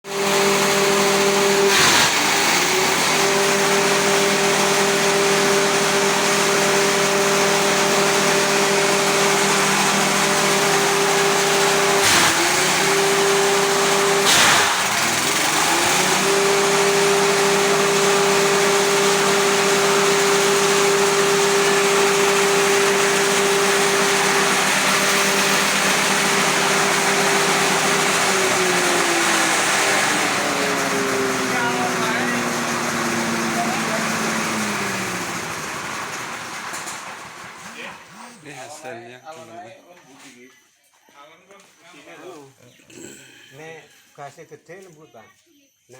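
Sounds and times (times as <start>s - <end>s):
grass chopper machine running: 0.0s - 38.7s.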